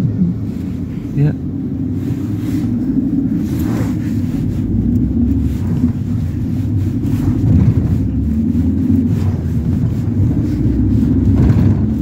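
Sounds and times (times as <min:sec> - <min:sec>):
minibus engine and road noise: 0:00.0 - 0:12.0.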